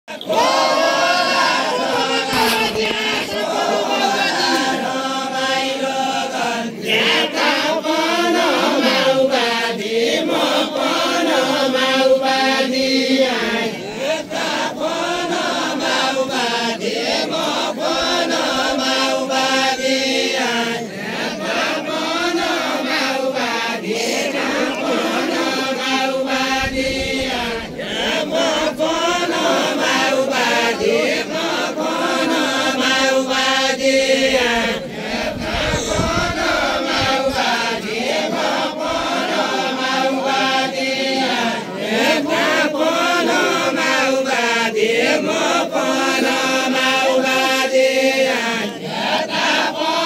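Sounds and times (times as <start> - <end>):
voices chanting melodically: 0.1 - 50.0.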